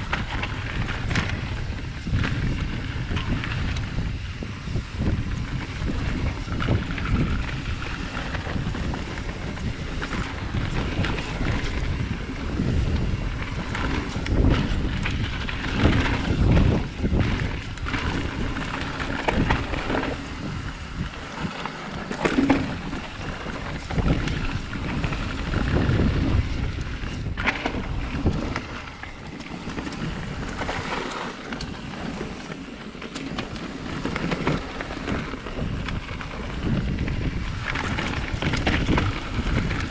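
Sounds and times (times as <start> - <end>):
bike knocks and rattles: 0.0 - 39.9
tyres rolling on dirt: 0.0 - 39.9
wind buffeting microphone: 0.0 - 39.9.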